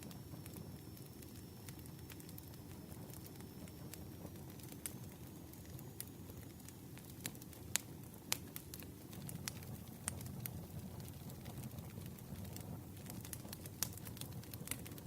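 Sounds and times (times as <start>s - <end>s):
campfire crackling and snapping: 0.0s - 15.0s
low rumble of flames: 0.0s - 15.0s.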